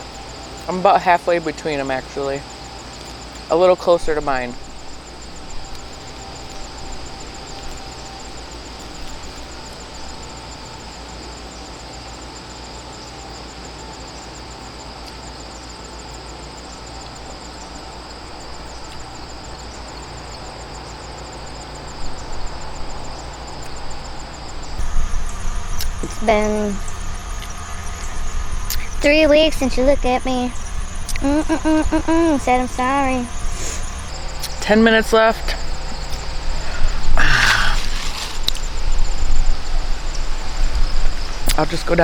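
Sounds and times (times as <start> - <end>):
distant generators droning: 0.0 - 42.0
insect trill: 0.0 - 42.0.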